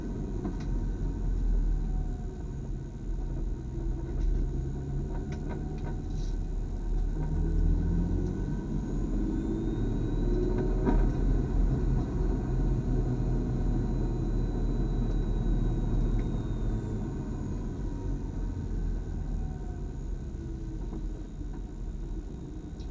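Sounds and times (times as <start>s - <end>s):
race car engine low rumble: 0.0s - 22.9s.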